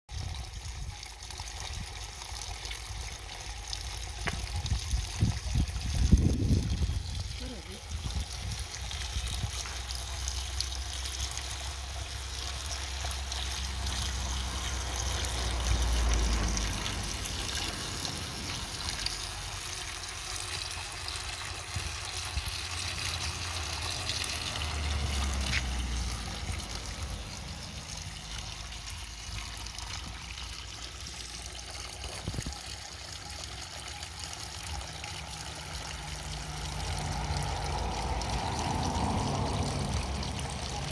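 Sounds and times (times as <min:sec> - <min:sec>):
fountain water trickling and splashing: 0:00.1 - 0:40.9.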